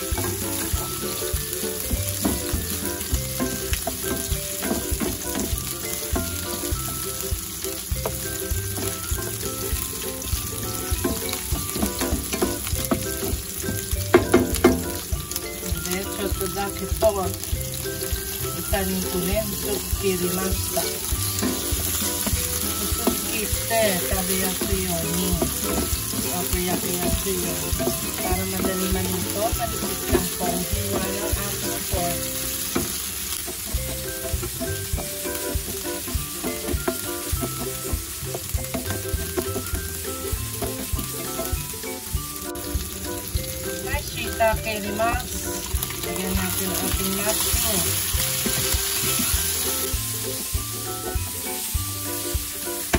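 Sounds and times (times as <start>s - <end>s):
food sizzling in hot oil: 0.0s - 52.9s.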